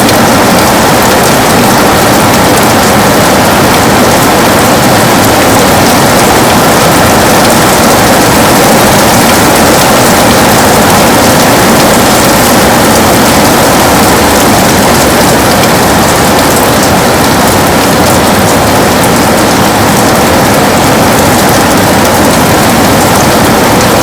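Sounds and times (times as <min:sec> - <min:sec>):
heavy rain on a window: 0:00.0 - 0:24.0.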